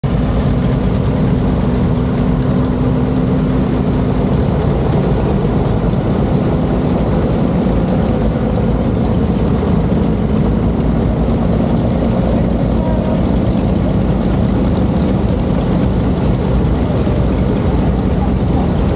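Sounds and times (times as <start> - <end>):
tractor engines idling: 0.0 - 18.9.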